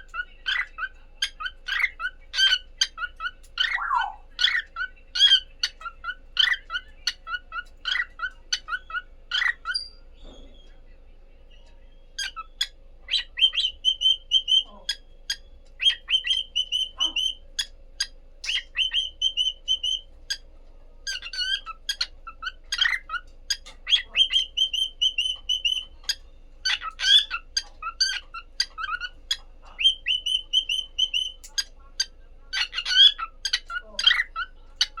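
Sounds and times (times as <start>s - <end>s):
cockatiels chirping: 0.0s - 35.0s.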